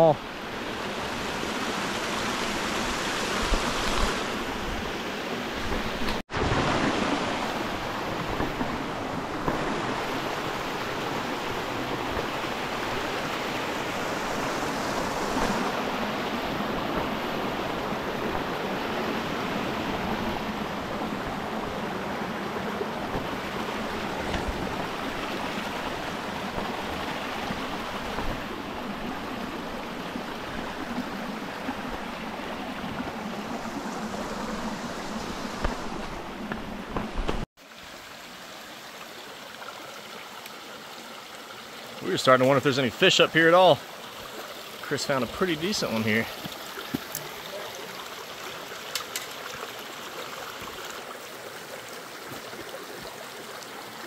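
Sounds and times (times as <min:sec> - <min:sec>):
creek water running over rock: 0:00.0 - 0:54.0.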